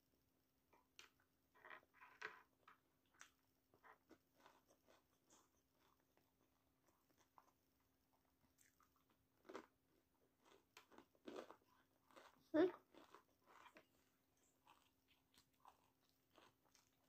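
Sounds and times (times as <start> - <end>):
chewing and mouth sounds: 3.1 - 17.0.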